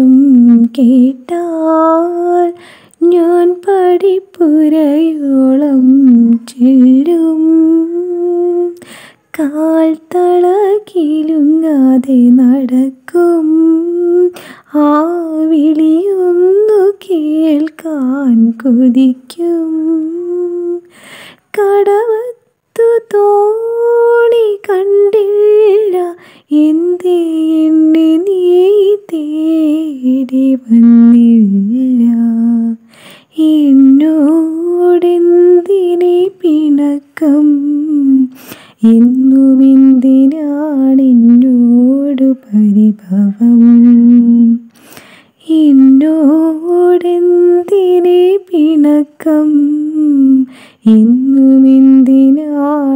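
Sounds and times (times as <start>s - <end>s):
woman singing lullaby melody: 0.0s - 44.7s, 45.4s - 52.9s.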